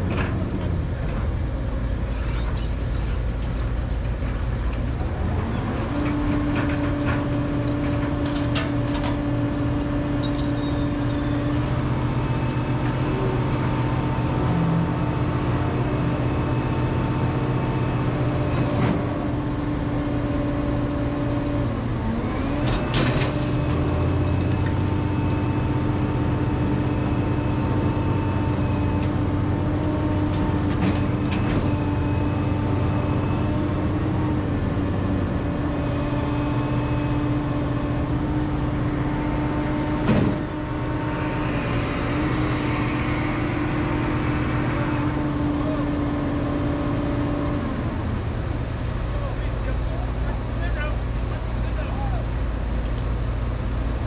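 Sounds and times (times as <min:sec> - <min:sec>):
excavator running: 0:00.0 - 0:54.0.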